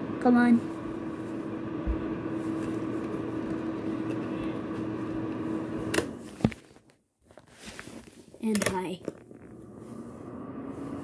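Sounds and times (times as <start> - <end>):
fan heater whirring: 0.0 - 6.7, 7.7 - 11.0.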